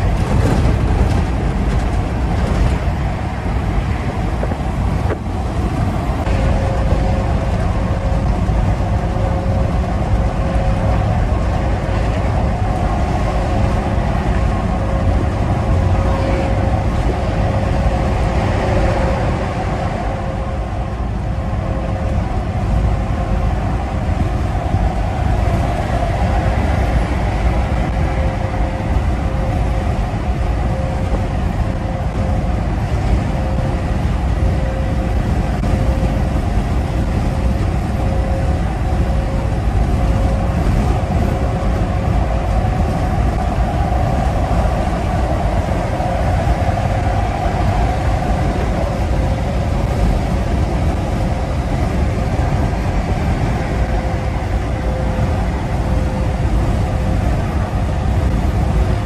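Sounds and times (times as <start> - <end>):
diesel engine drone: 0.0 - 59.0
road and wind noise: 0.0 - 59.0
thin steady whine: 0.0 - 59.0.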